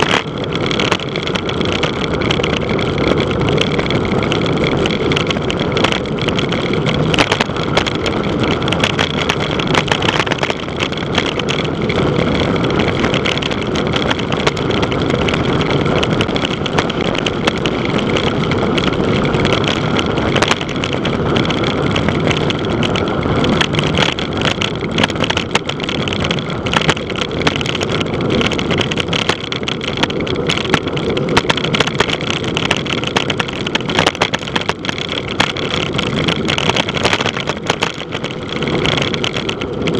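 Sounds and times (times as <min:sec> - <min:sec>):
bike rattling clicks: 0:00.0 - 0:39.9
wind rush over microphone: 0:00.0 - 0:39.9.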